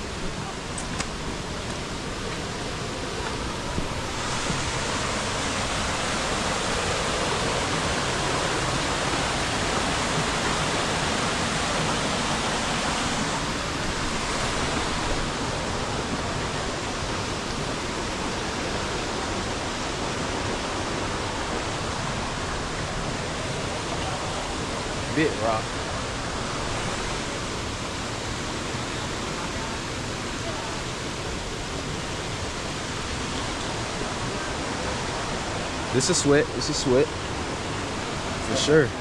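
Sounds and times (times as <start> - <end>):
rushing stream water: 0.0 - 39.0.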